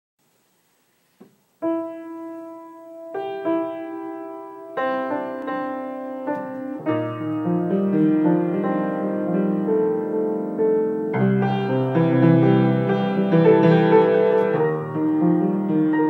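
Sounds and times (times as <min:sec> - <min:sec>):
slow solo piano: 0:01.2 - 0:16.0.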